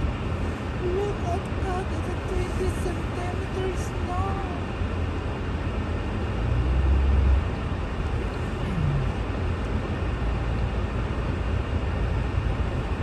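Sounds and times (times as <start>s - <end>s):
car driving on snow: 0.0s - 13.0s.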